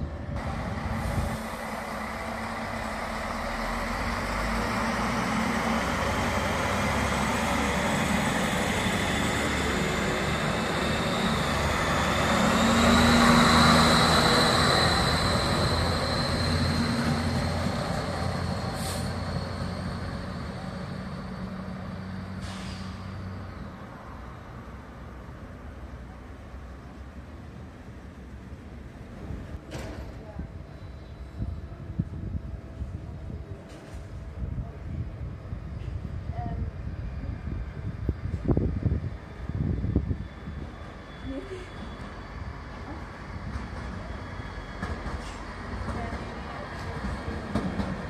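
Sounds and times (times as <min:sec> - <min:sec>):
diesel train engine: 0:00.0 - 0:48.0.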